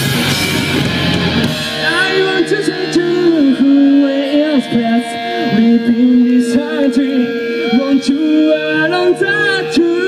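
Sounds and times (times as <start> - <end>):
rock band playing live: 0.0 - 10.0
man singing: 1.7 - 10.0.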